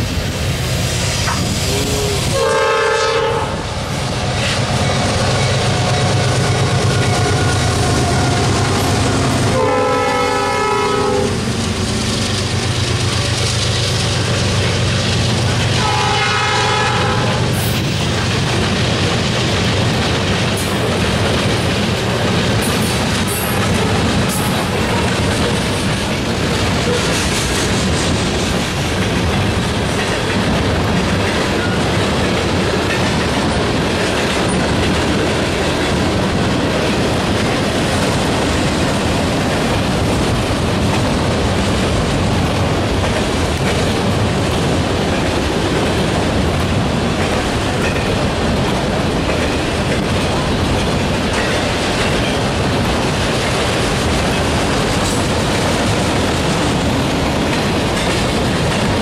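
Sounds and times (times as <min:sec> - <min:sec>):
steel wheels rushing on rail: 0:00.0 - 0:59.0.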